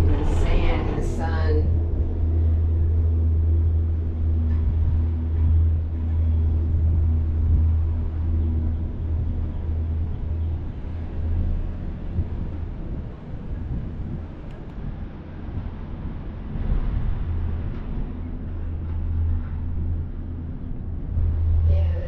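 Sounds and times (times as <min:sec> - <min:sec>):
gondola cabin rumble: 0:00.0 - 0:22.0.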